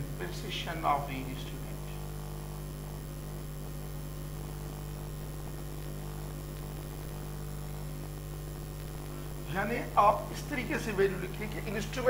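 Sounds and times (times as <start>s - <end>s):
background hiss: 0.0s - 12.0s
electrical mains hum: 0.0s - 12.0s.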